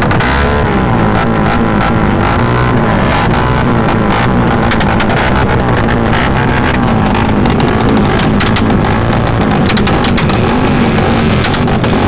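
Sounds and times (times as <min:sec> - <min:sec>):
exhaust cracks: 0:00.0 - 0:12.0
motorcycle engine revving: 0:00.0 - 0:12.0.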